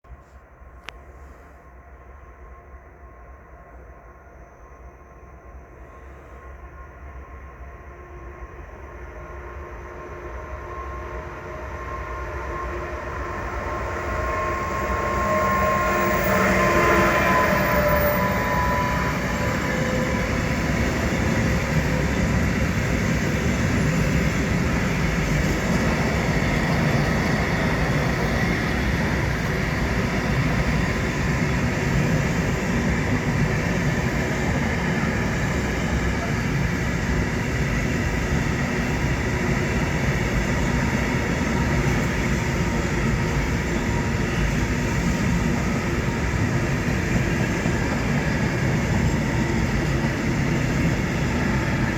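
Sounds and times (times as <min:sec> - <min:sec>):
train wheels on rails: 0:08.9 - 0:51.9.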